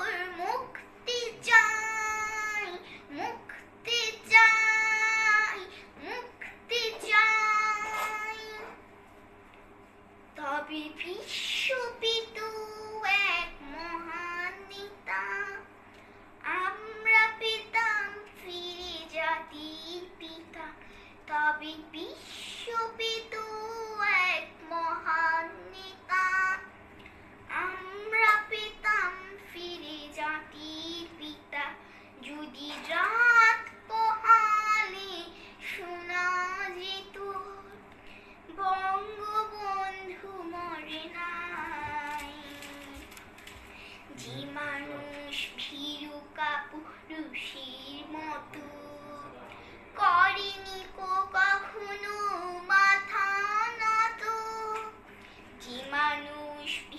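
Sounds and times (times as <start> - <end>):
girl singing: 0.0 - 8.8, 10.4 - 15.7, 16.4 - 26.8, 27.5 - 37.9, 38.5 - 43.4, 44.1 - 49.4, 50.0 - 56.9.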